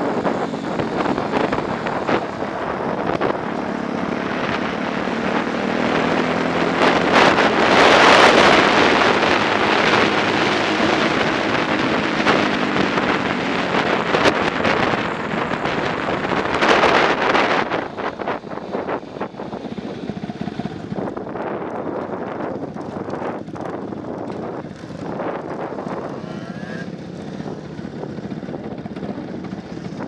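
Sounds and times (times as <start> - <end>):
motorcycle engine running hard: 0.0 - 30.0
wind rushing over microphone: 0.0 - 30.0.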